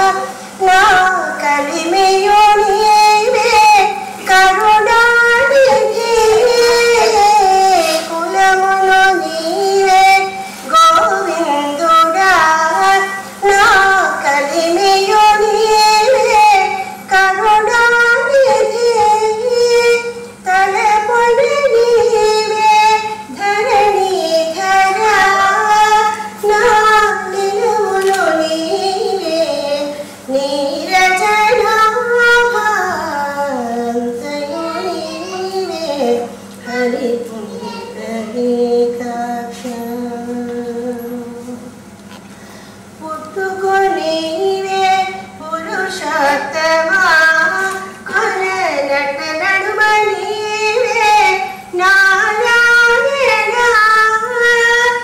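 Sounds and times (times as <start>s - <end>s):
woman singing unaccompanied: 0.0s - 41.8s, 42.9s - 55.0s
faint steady hum: 0.0s - 55.0s.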